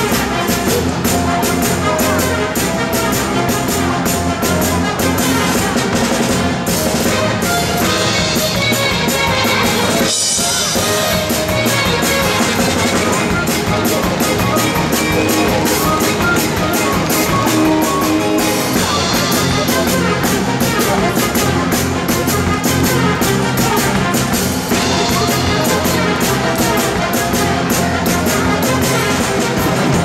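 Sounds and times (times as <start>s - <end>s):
upbeat music with drum beat: 0.0s - 30.0s.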